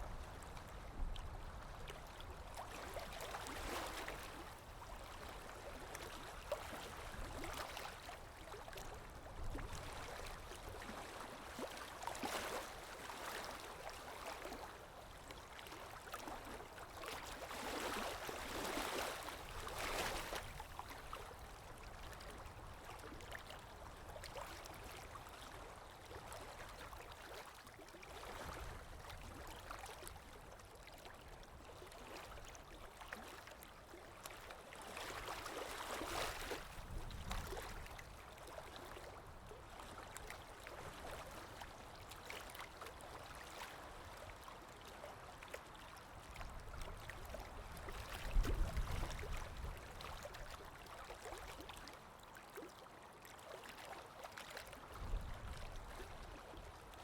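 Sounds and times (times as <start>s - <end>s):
water lapping: 0.2s - 57.0s.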